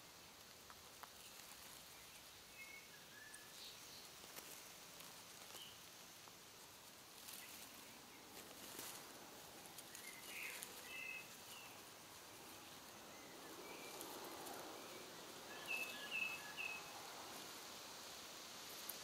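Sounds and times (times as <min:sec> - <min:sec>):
hedgehog rustling through dry leaves: 0:00.0 - 0:19.0.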